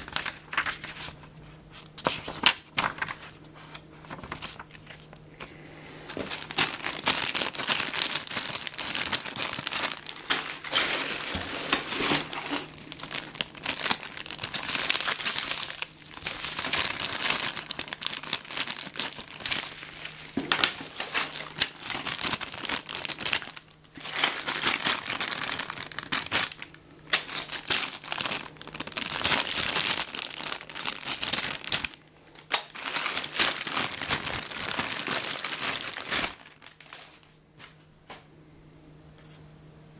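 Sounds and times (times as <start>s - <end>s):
plastic bags crinkling: 0.0s - 37.3s.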